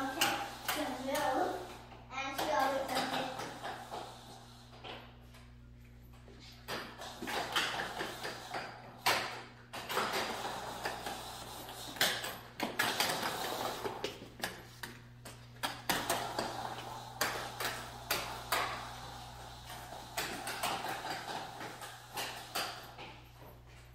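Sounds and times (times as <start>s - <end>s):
shoes clacking on tile: 0.0s - 23.9s
wheeled shoes rolling on tile: 0.0s - 23.9s.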